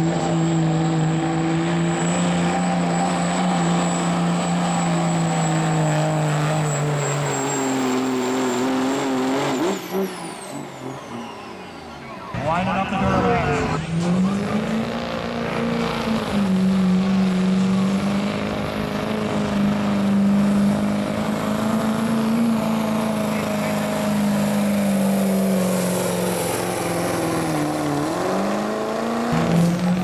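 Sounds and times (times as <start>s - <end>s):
diesel engine revving hard: 0.0s - 30.0s.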